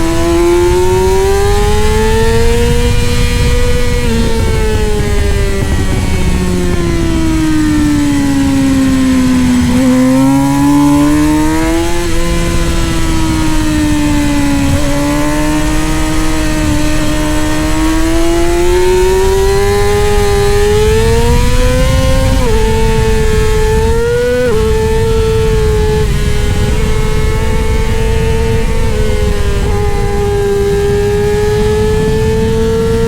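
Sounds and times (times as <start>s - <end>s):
motorcycle engine at high revs: 0.0s - 33.0s.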